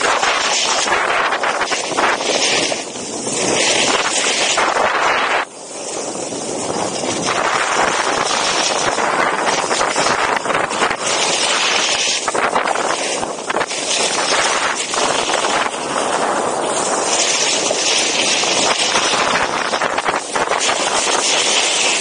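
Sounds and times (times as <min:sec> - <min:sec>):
skis sliding on snow: 0:00.0 - 0:22.0
wind rushing over microphone: 0:00.0 - 0:22.0.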